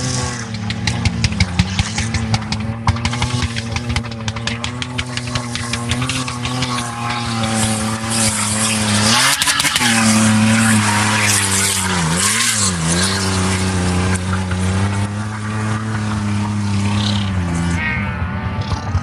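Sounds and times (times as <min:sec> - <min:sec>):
tyres and wind rushing: 0:00.0 - 0:19.0
vehicle engine running hard: 0:00.0 - 0:19.0.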